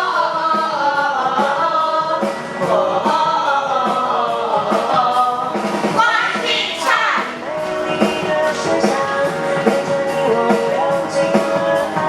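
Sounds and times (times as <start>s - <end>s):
group singing pop song: 0.0s - 12.0s
musical accompaniment with beat: 0.0s - 12.0s.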